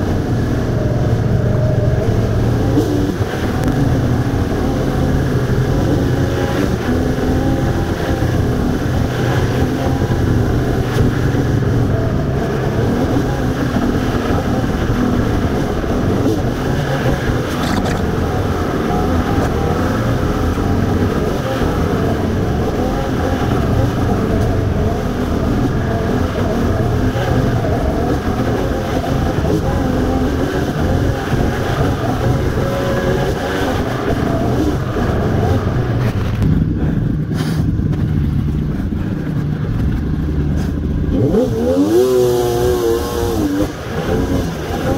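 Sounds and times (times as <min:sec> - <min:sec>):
engine rumbling: 0:00.0 - 0:44.9.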